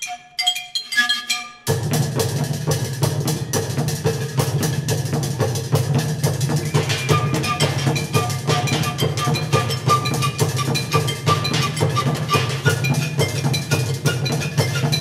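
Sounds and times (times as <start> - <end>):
scrap percussion drumming: 0.0 - 15.0.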